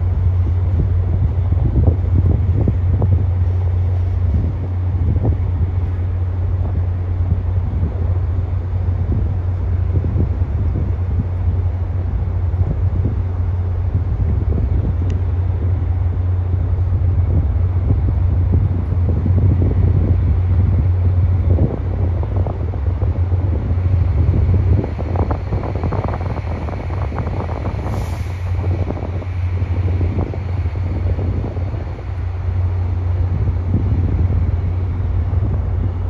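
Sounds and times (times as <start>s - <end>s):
train low rumble: 0.0s - 36.0s
train rattling: 0.0s - 36.0s
wind buffeting microphone: 0.0s - 36.0s.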